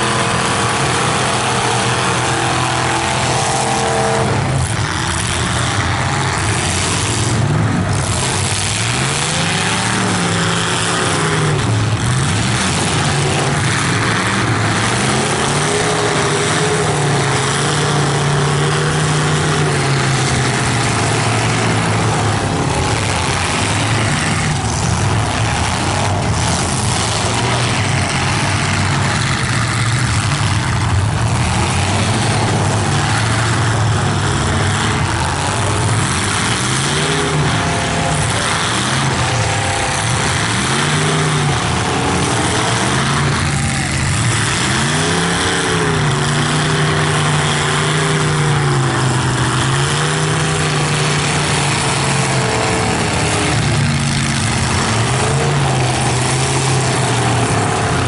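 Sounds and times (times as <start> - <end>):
unmuffled car engines revving: 0.0 - 58.0.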